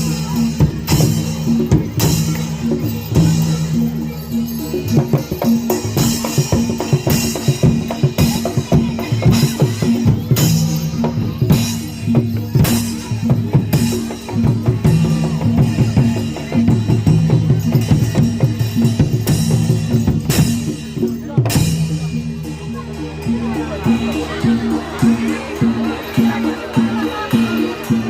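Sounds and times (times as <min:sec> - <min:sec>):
fast driving drumming: 0:00.0 - 0:28.0
gamelan music: 0:00.0 - 0:28.0.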